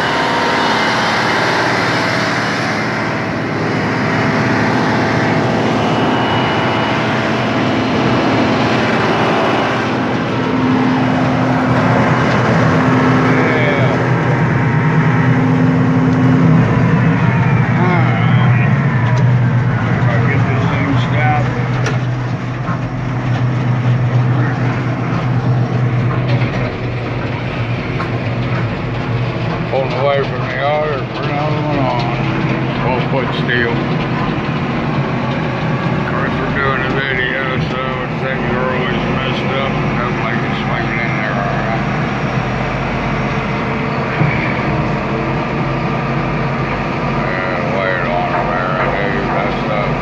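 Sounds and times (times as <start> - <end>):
drilling machine engine drone: 0.0 - 50.0
humming tone: 0.0 - 50.0.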